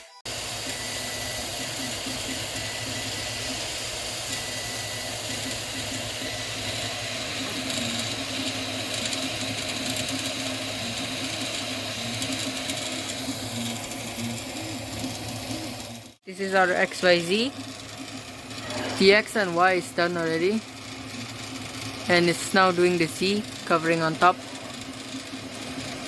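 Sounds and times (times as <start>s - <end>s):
stepper motors whirring: 0.2s - 26.0s.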